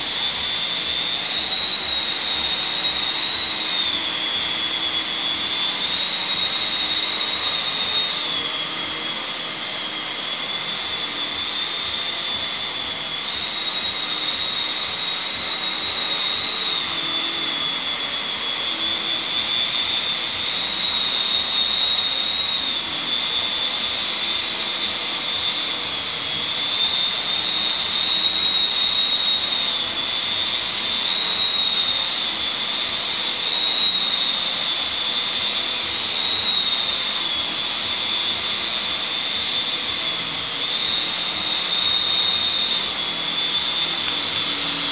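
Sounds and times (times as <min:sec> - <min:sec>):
vacuum cleaner running on carpet: 0:00.0 - 0:44.9.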